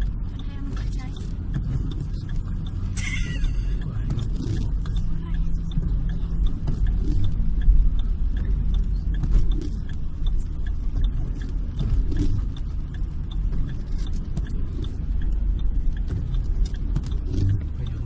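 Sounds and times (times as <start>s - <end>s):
light ticks: 0.0s - 18.0s
low vehicle rumble: 0.0s - 18.0s.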